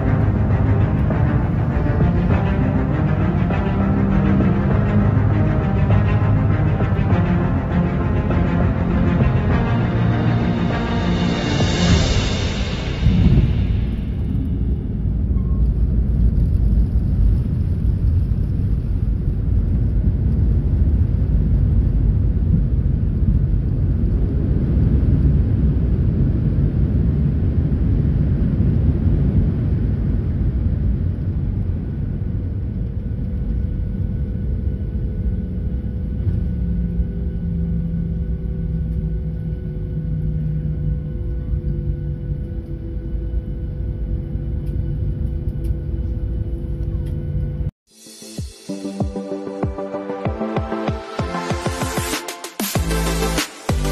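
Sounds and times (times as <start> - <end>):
low steady hum: 0.0 - 47.7
airliner cabin rumble: 0.0 - 47.8.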